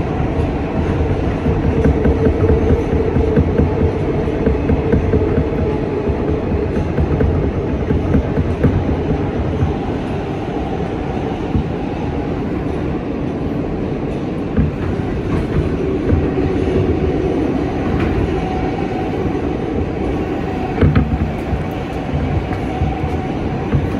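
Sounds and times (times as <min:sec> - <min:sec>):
subway wheels rumbling on rail: 0:00.0 - 0:23.9
clicks over rail joints: 0:00.4 - 0:12.2, 0:14.1 - 0:18.6, 0:19.7 - 0:23.9.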